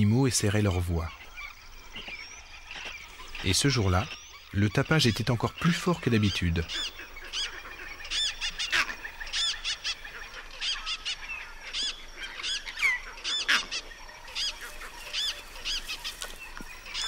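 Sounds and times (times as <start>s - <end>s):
animal alarm calls: 1.2s - 17.0s.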